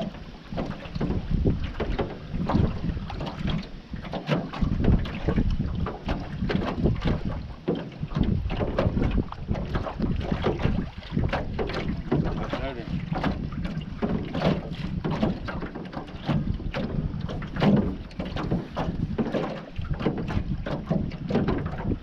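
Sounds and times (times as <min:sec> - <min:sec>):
knocks and splashes: 0:00.0 - 0:22.0
water slapping boat hull: 0:00.0 - 0:22.0
wind buffeting microphone: 0:00.0 - 0:22.0.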